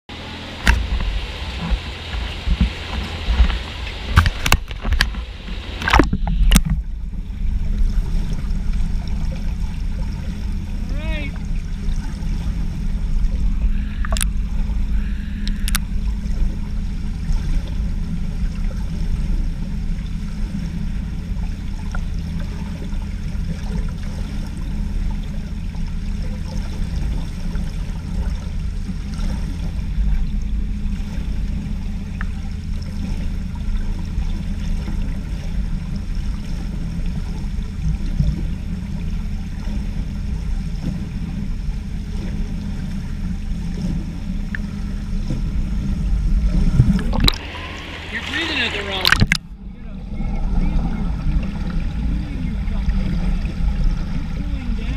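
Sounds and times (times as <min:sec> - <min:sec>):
muffled underwater pool rumble: 0:00.1 - 0:54.9.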